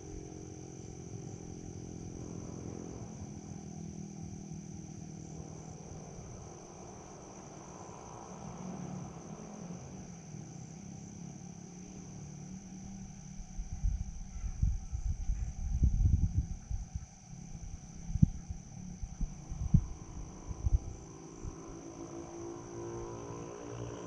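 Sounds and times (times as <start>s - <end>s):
crickets chirping: 0.0s - 24.0s
low engine-like hum: 0.0s - 24.0s.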